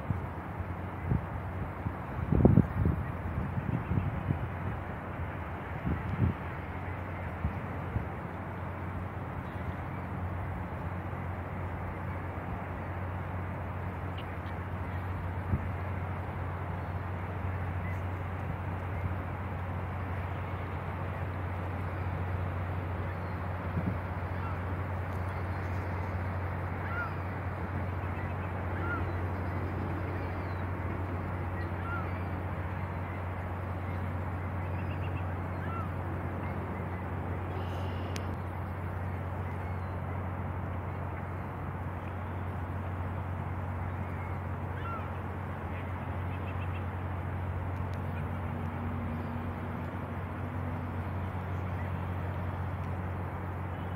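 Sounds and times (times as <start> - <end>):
boat engines droning: 0.0 - 53.9.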